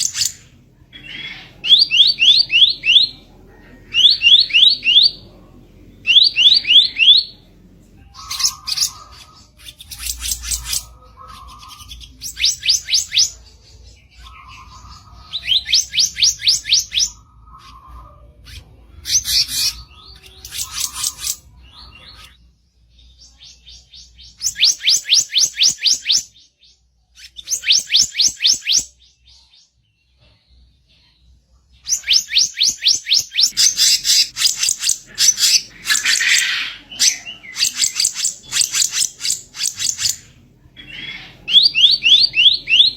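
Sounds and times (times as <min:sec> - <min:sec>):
songbird singing harsh song: 0:00.0 - 0:29.4, 0:31.8 - 0:42.9.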